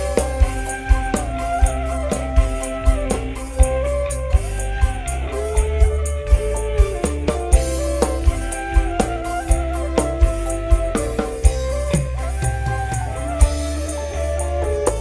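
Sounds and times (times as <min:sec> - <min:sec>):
heavy bass: 0:00.0 - 0:15.0
sliding melody line: 0:00.0 - 0:15.0.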